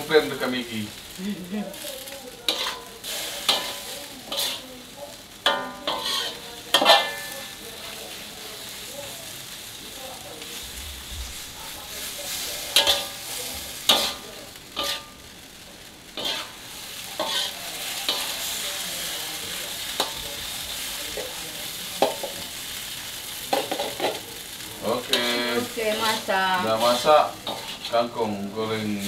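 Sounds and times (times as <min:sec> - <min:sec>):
stir-frying sizzle: 0:00.0 - 0:29.0
metal spatula scraping a wok: 0:01.0 - 0:04.7, 0:05.5 - 0:08.8, 0:10.4 - 0:15.3, 0:16.1 - 0:24.2, 0:25.0 - 0:28.8.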